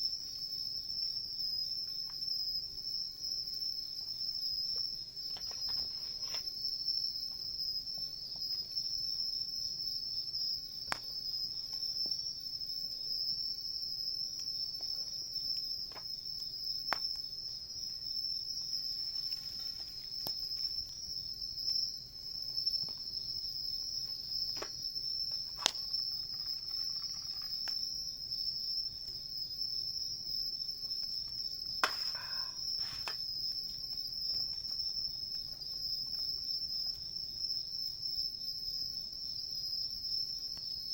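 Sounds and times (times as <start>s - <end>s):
insects trilling: 0.0s - 40.9s
campfire crackling: 0.1s - 40.8s.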